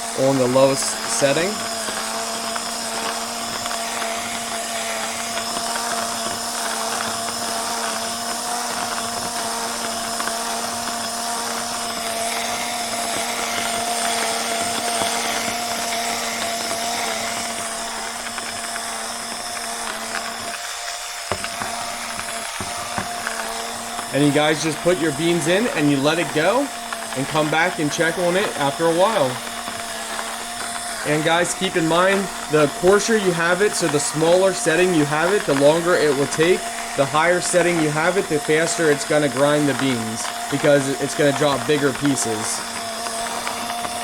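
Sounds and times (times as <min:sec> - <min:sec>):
coffee grinder running: 0:00.0 - 0:44.0.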